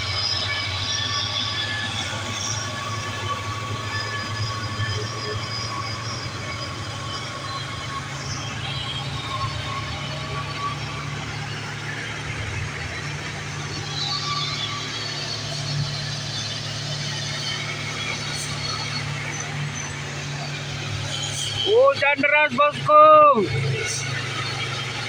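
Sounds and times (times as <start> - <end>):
truck diesel engines droning: 0.0 - 25.0.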